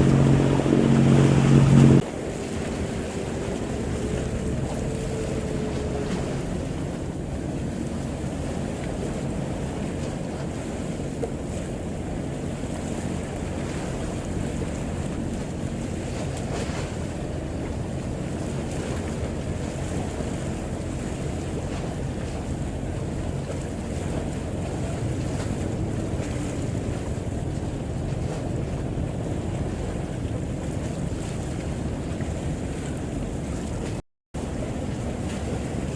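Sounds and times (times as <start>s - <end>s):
boat engine rumbling: 0.0s - 35.9s
sea noise: 0.0s - 35.9s
wind buffeting microphone: 0.0s - 35.9s.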